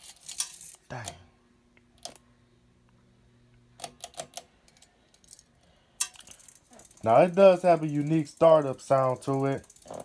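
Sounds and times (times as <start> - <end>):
ceiling fan motor humming: 0.0 - 10.0.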